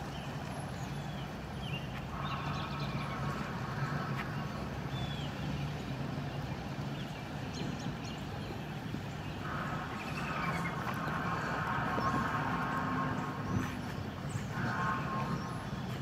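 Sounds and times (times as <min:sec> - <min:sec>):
steady low hum: 0:00.0 - 0:16.0
steady higher hum: 0:01.5 - 0:16.0.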